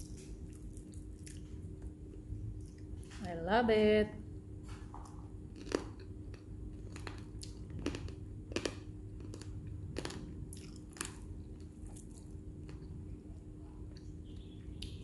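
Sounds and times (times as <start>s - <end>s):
chewing crispy fried chicken: 0.0s - 3.0s, 5.0s - 15.0s.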